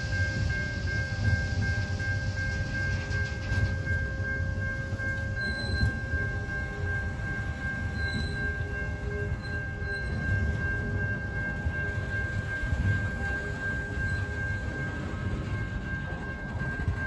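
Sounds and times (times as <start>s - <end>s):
steady high-pitched tone: 0.0s - 17.0s
train wagons rumbling on rails: 0.0s - 17.0s.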